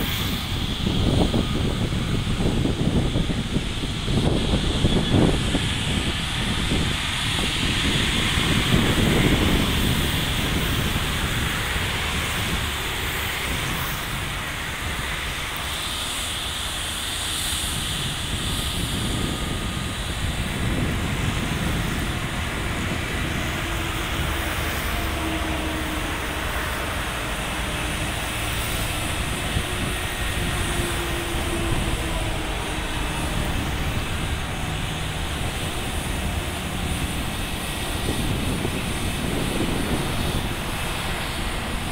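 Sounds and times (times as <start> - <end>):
high engine whine: 0.0 - 41.9
jet engines taxiing: 0.0 - 41.9.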